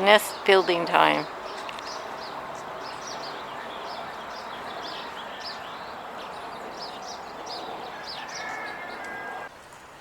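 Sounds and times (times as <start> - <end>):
small birds chirping: 0.0 - 9.5
outdoor background hiss: 0.0 - 10.0.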